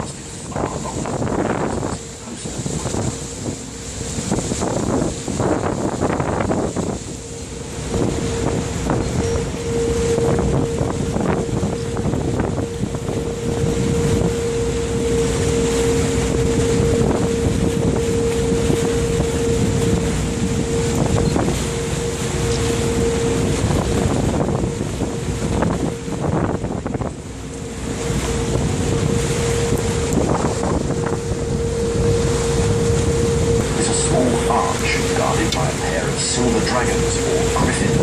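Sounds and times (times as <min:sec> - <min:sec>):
boat engine running: 0:00.0 - 0:38.0
wind buffeting microphone: 0:00.0 - 0:38.0.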